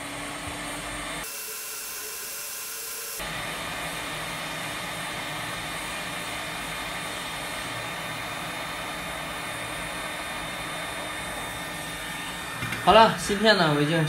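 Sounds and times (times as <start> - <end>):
hot-air gun hissing: 0.0 - 14.0.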